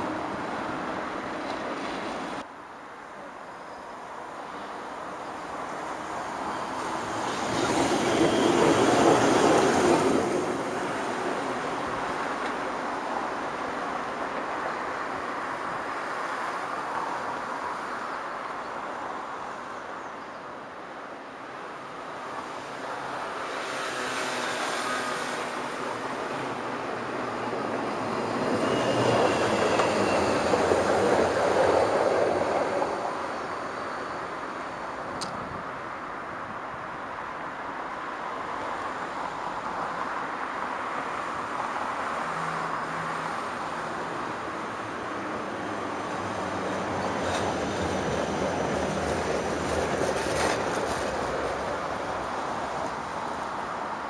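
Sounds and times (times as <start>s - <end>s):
street traffic passing: 0.0s - 54.0s.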